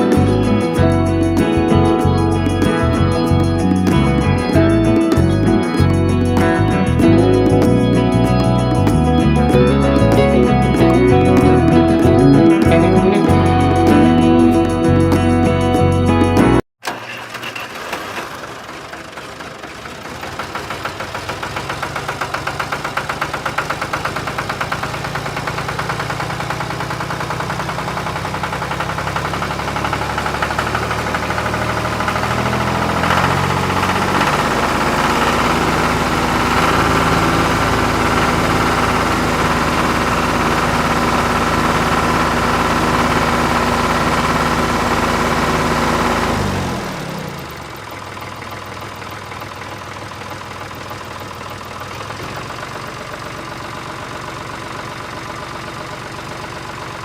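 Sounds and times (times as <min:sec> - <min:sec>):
tractor engine chugging: 0:00.0 - 0:57.0.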